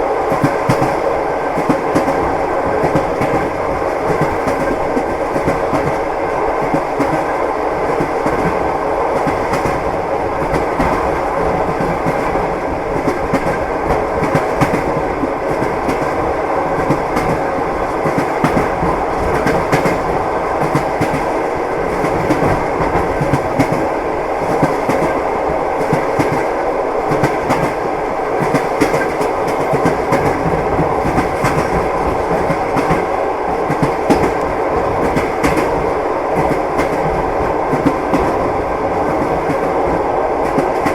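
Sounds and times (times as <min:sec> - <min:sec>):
train wheels clacking on rails: 0:00.0 - 0:40.9.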